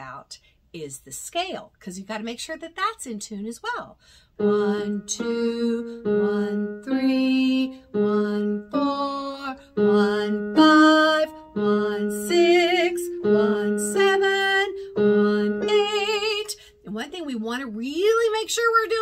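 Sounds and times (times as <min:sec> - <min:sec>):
woman singing scale exercise: 0:03.7 - 0:19.0.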